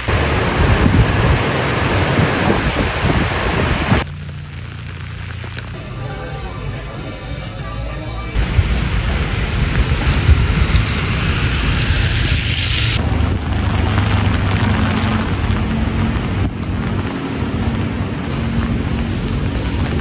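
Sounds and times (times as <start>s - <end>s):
heavy rain hissing: 0.0s - 6.8s, 8.4s - 20.0s.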